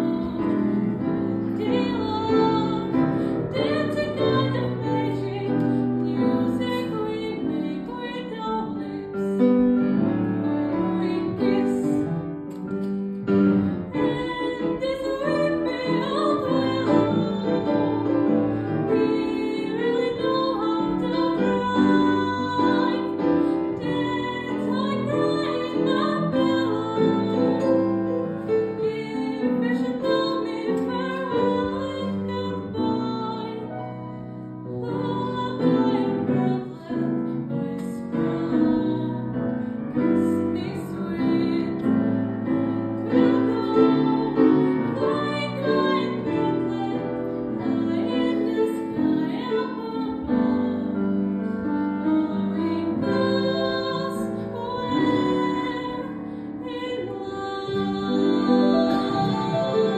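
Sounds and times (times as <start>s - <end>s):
woman singing: 0.0s - 9.5s, 10.4s - 12.3s, 13.8s - 34.0s, 34.7s - 59.9s
piano accompaniment: 0.0s - 59.9s.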